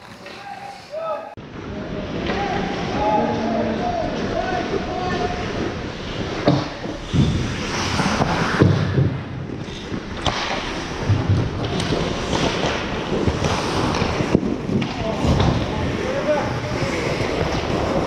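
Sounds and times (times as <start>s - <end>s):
hockey sticks and puck clacking: 0.0s - 1.0s, 2.1s - 18.0s
skates scraping ice: 0.0s - 1.3s, 2.1s - 18.0s.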